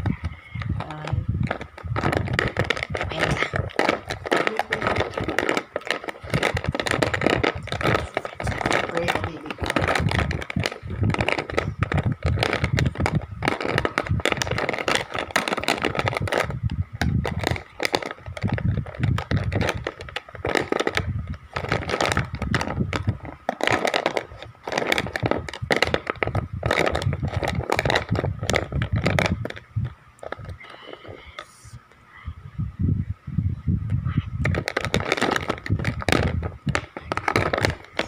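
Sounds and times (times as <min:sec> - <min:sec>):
crayons clicking and rattling: 0:00.0 - 0:31.8, 0:33.9 - 0:38.0.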